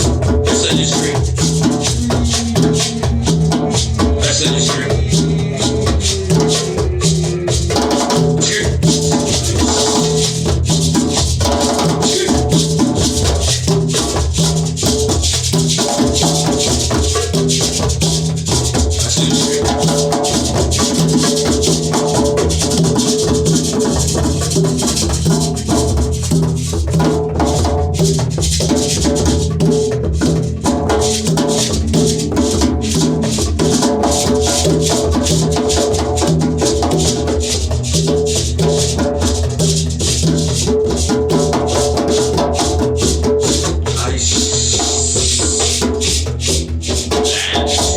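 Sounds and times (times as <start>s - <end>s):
music with rattling percussion: 0.0s - 47.9s.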